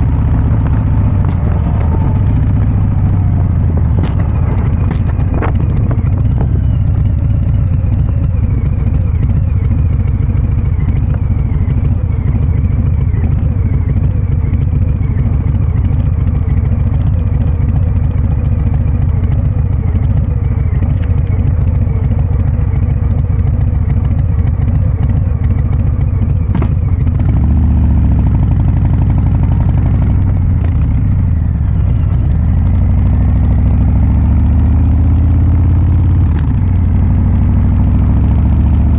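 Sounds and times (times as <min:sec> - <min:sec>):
motorcycle engine deep rumble: 0:00.0 - 0:38.9.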